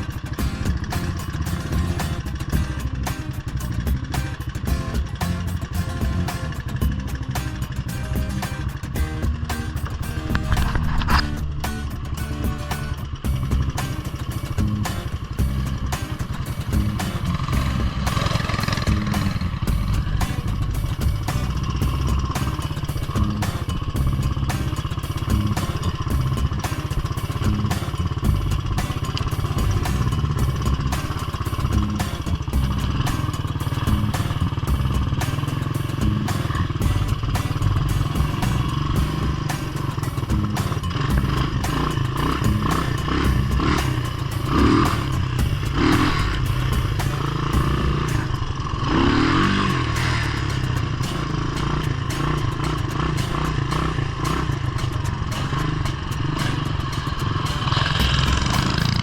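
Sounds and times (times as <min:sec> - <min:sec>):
off-road engine running: 0:00.0 - 0:59.0.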